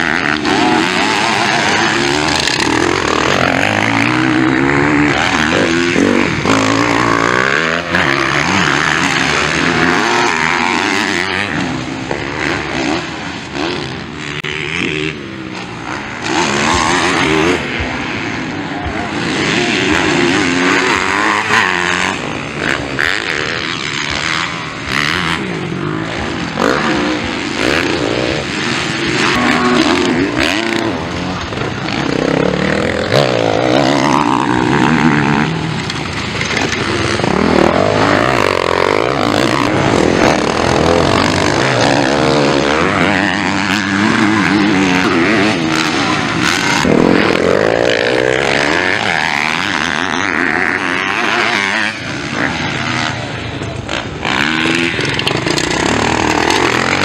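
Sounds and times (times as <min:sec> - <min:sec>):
motocross engines revving: 0:00.0 - 0:57.0.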